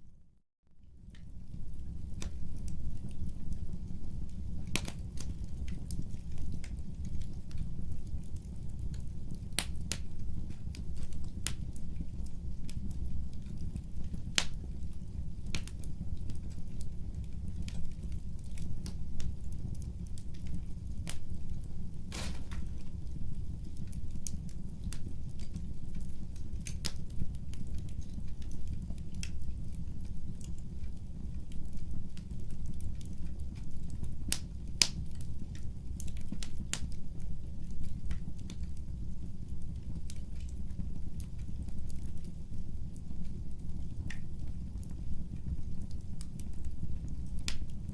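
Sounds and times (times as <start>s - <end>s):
low fire rumble: 0.1s - 47.9s
wood fire crackling and popping: 1.0s - 47.9s.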